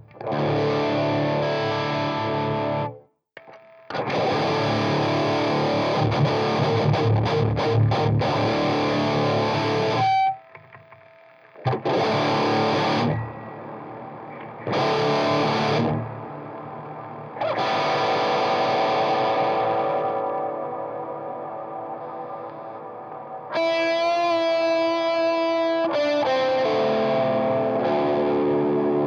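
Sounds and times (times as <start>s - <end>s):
distorted electric guitar riff: 0.0s - 29.0s
ringing guitar chords: 0.0s - 29.0s.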